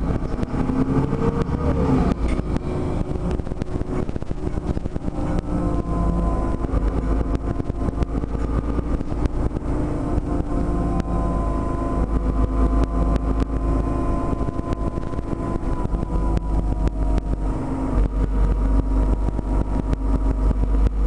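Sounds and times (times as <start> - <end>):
bus body rattling: 0.0 - 21.0
bus engine drone: 0.0 - 21.0.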